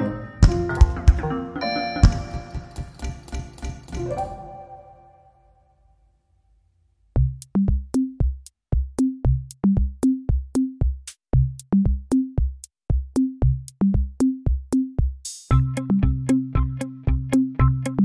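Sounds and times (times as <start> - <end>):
electronic drum-machine beat: 0.0 - 4.3, 7.2 - 18.0.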